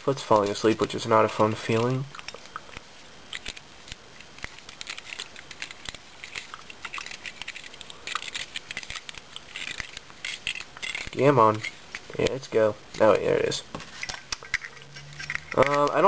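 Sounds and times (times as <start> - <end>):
metallic clicks and scrapes: 1.7 - 12.4, 13.8 - 16.0.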